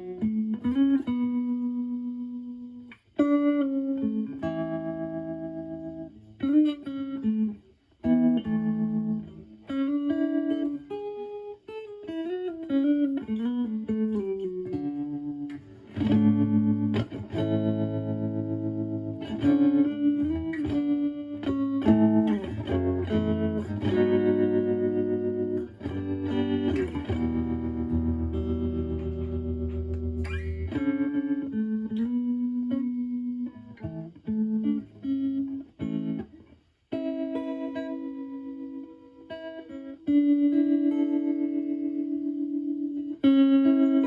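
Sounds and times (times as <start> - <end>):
clean electric guitar with tremolo: 0.0 - 44.0.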